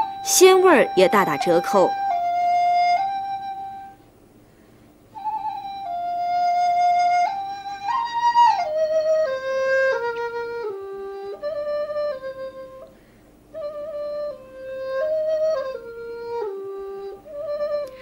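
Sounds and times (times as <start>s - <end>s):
solo flute melody: 0.0s - 4.1s, 5.1s - 18.0s.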